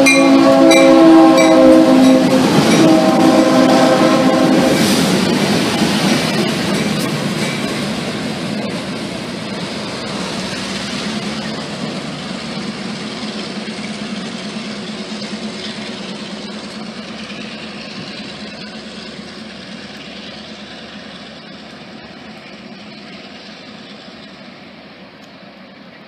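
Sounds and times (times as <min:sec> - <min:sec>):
diesel locomotive engine hum: 0:00.0 - 0:26.0.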